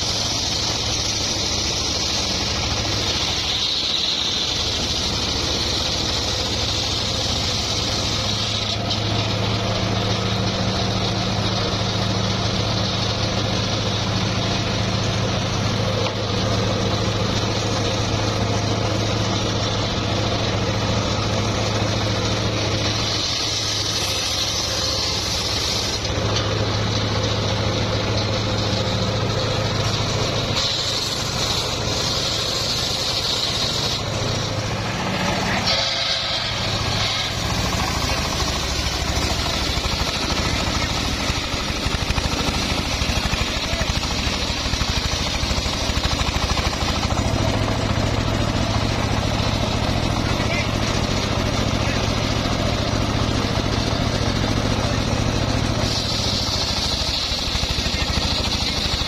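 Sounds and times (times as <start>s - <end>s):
sawmill engine humming: 0.0s - 59.0s.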